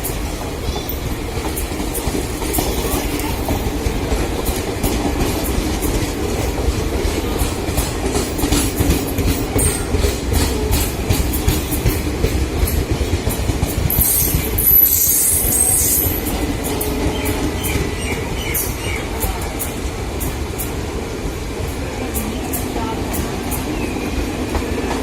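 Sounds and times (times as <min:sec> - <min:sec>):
train coaches rumbling past: 0:00.0 - 0:25.0
wheels clacking over rail joints: 0:00.0 - 0:25.0.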